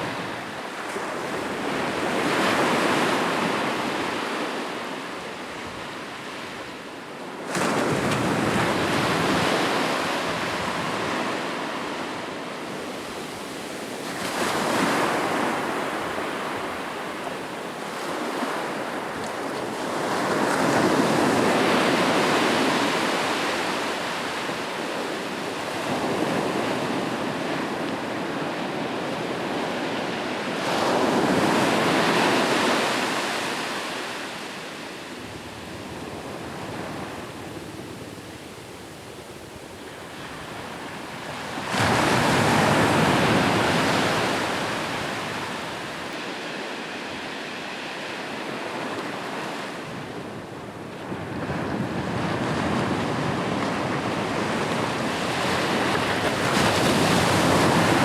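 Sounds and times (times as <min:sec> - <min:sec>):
ocean waves on a beach: 0:00.0 - 0:58.0.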